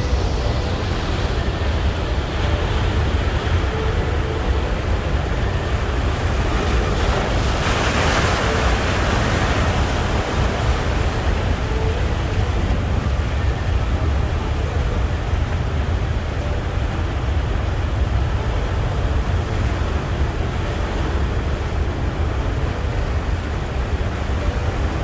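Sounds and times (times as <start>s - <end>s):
wave breaking on beach: 0.0s - 25.0s
wind rumble on microphone: 0.0s - 25.0s.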